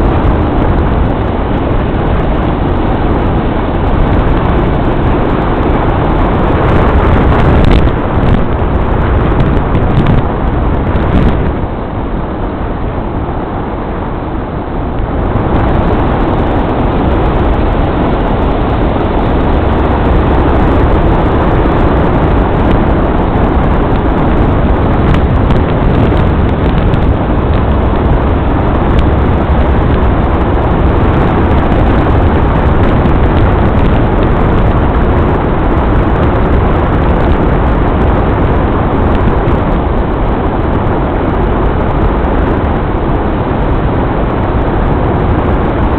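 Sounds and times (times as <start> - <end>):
vehicle road and engine noise: 0.0 - 45.9.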